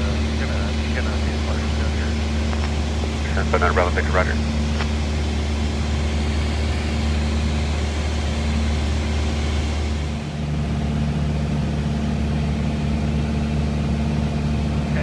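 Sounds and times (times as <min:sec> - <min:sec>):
small airplane engine droning: 0:00.0 - 0:15.0.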